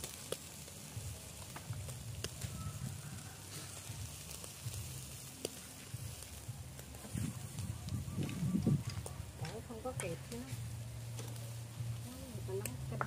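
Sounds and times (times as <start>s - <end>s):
fat crackling and popping: 0.0s - 13.0s
meat sizzling on a grill: 0.0s - 13.0s.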